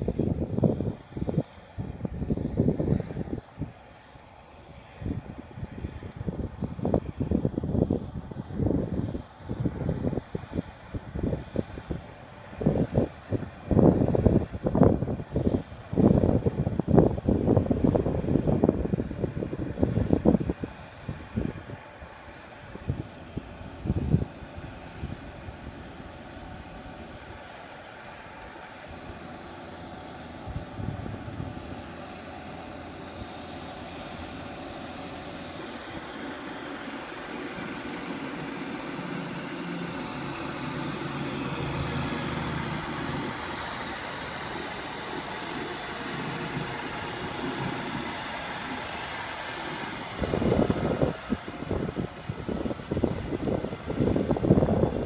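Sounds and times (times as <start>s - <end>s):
vehicle engine running: 0.0s - 55.0s
wind buffeting: 0.0s - 55.0s.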